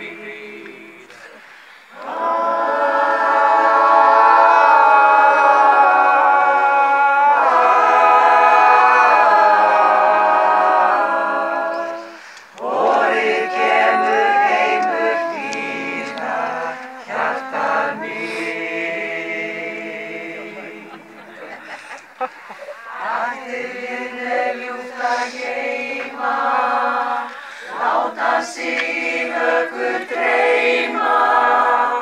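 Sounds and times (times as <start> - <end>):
choir singing in harmony: 0.0 - 21.7, 22.8 - 32.0.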